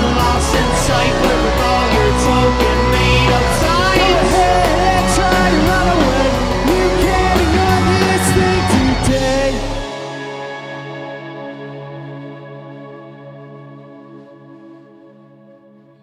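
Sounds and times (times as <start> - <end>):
rock band playing live: 0.0 - 13.6.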